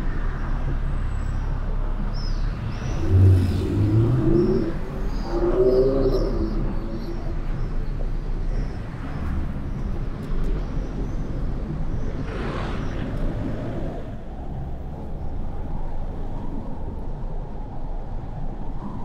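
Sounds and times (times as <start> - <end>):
passing traffic: 0.0 - 19.0
vehicle road and wind noise: 0.0 - 19.0.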